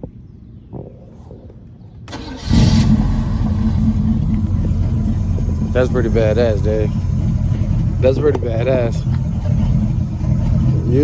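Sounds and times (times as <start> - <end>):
car engine starting and running: 2.0 - 11.0.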